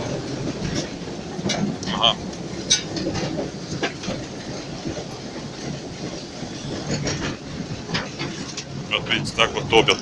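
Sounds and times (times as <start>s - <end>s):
steam locomotive rumble: 0.0s - 10.0s.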